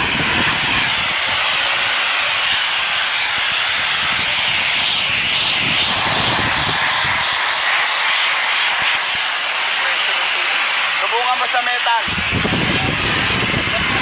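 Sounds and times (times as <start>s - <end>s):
pressure washer water jet spraying: 0.0s - 14.0s.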